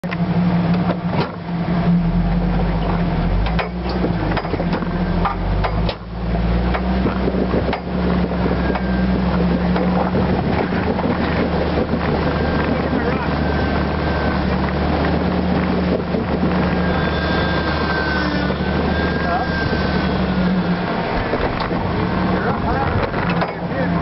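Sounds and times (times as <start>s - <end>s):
buggy engine running: 0.0s - 24.0s.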